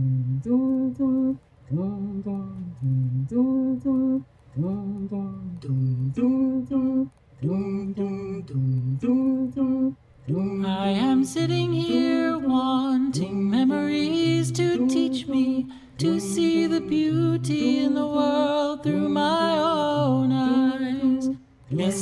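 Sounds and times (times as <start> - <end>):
person humming a melody: 0.0 - 22.0.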